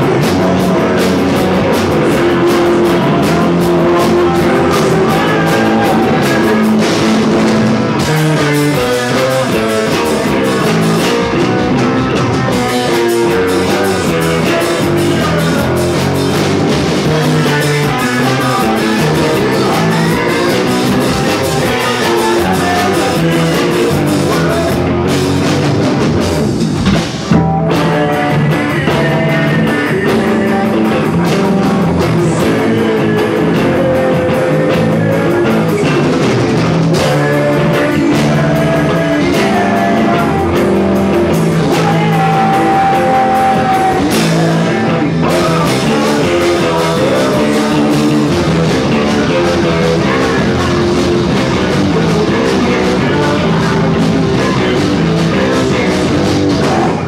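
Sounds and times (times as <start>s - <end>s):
rock music on guitar and drums: 0.0s - 57.0s.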